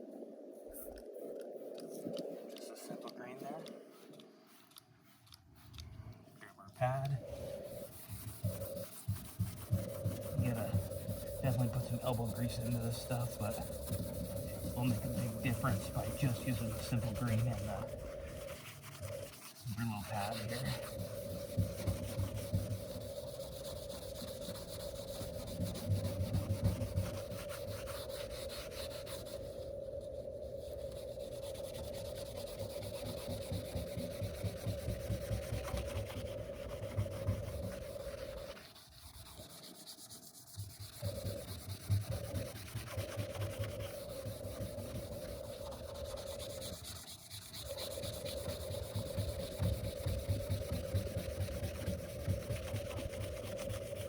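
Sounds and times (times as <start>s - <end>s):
steady hum-like tone: 0.0s - 54.0s
scrub pad rasping on metal hull: 7.0s - 29.5s, 31.3s - 54.0s.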